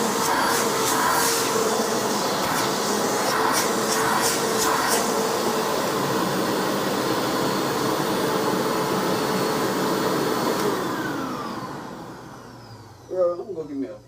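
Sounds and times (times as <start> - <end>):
vacuum motor spinning down: 0.0 - 13.5
upright vacuum running: 0.0 - 13.8.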